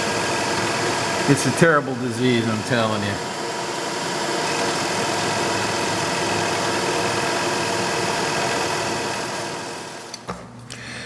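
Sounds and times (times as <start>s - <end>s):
cutter hissing through plastic: 0.0s - 10.2s
milling machine hum: 0.0s - 10.2s.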